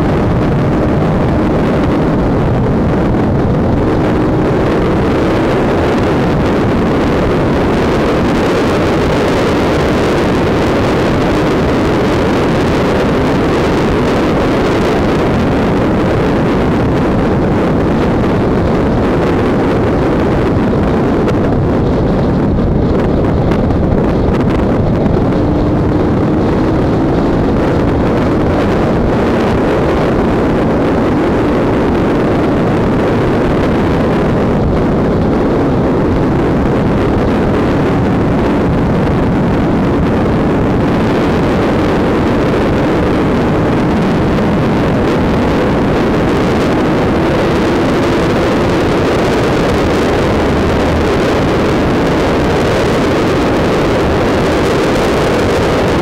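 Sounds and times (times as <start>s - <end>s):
motorcycle engine: 0.0s - 56.0s
wind rush on microphone: 0.0s - 56.0s.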